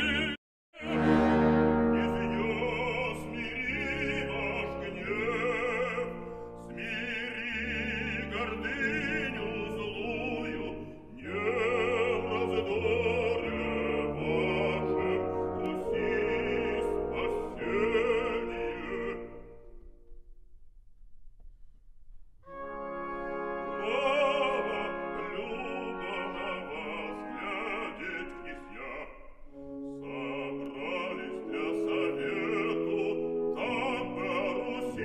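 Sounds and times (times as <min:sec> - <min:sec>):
orchestral accompaniment: 0:00.0 - 0:19.8, 0:22.5 - 0:35.0.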